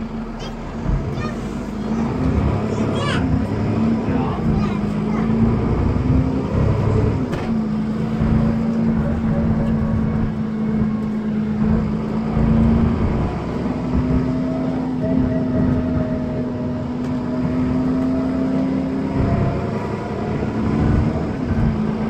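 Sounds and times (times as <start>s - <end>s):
bus engine droning: 0.0s - 22.0s
road noise: 0.0s - 22.0s.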